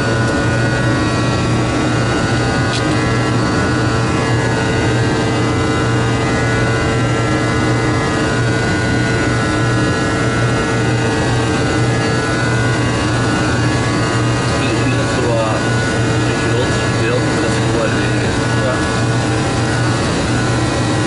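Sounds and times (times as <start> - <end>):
airflow rush and jet engine hum: 0.0 - 21.0
steady tones: 0.0 - 21.0.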